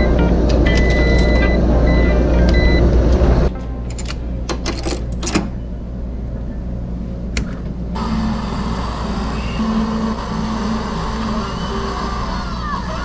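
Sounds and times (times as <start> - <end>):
car interior drone: 0.0 - 3.5, 5.6 - 13.0.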